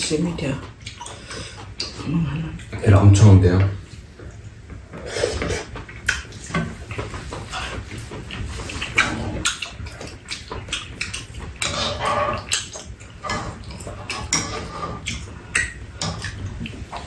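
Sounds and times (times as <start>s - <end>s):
wet chewing and slurping: 0.6s - 2.8s, 3.9s - 17.0s.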